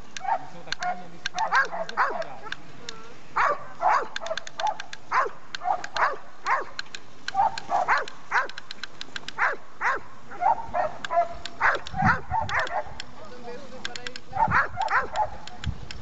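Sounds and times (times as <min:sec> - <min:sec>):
sharp little clicks: 0:00.0 - 0:09.6, 0:10.4 - 0:16.0
dog yelping: 0:00.2 - 0:08.6, 0:09.4 - 0:13.1, 0:14.3 - 0:15.4.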